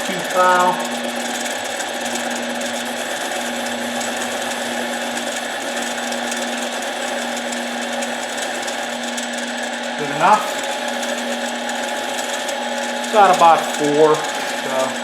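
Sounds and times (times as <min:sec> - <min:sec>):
lathe running with hum: 0:00.0 - 0:15.0.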